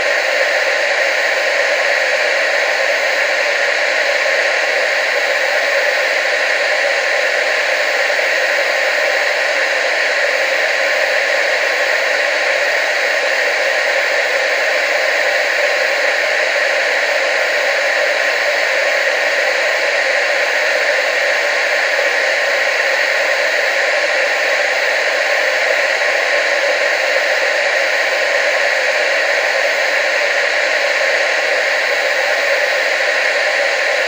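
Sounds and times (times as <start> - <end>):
television static hiss: 0.0 - 34.0.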